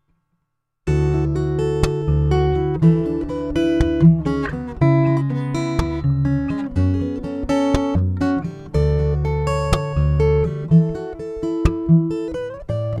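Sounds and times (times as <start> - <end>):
acoustic guitar chords: 0.9 - 13.0.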